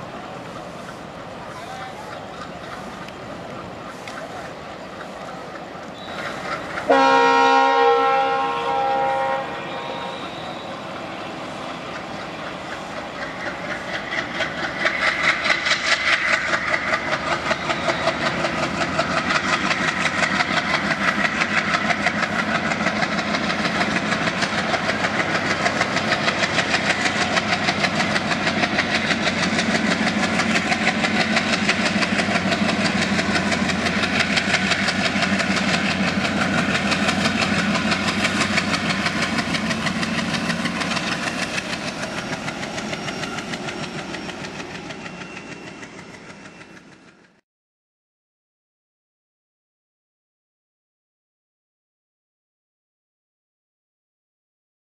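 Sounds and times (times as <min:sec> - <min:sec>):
diesel locomotive engine throbbing: 0:00.0 - 0:47.4.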